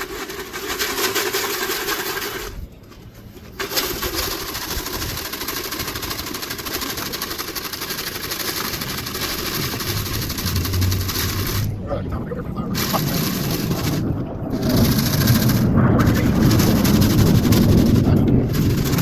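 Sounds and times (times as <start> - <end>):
rapid rattling noise: 0.0 - 19.0.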